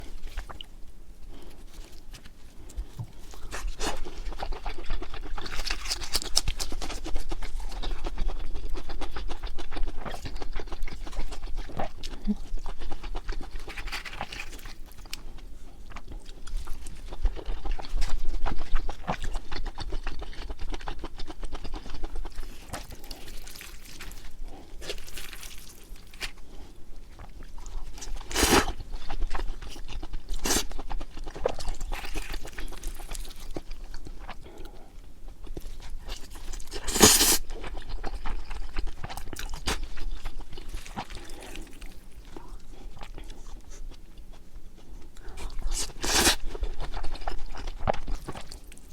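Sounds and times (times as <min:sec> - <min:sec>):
person chewing: 0:00.0 - 0:48.9.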